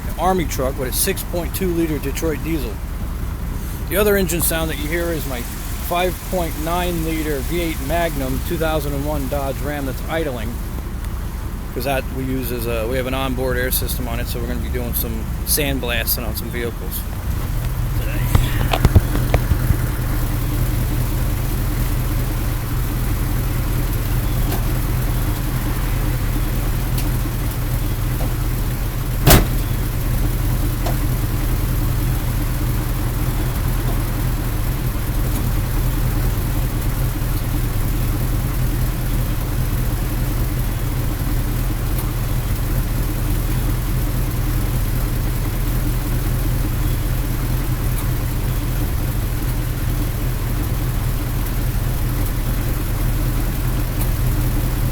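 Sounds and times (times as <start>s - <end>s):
engines idling: 0.0s - 54.9s.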